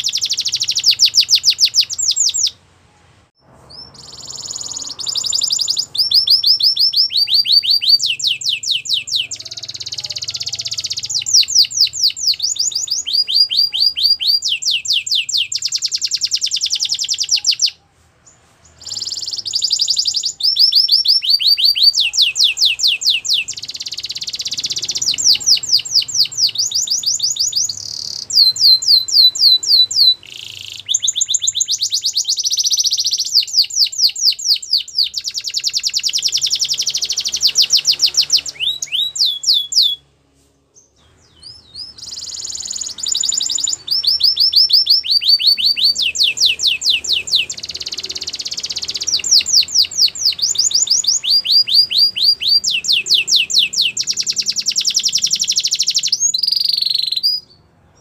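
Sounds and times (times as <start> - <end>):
canary singing trills: 0.0 - 2.6, 3.4 - 40.2, 40.8 - 58.0.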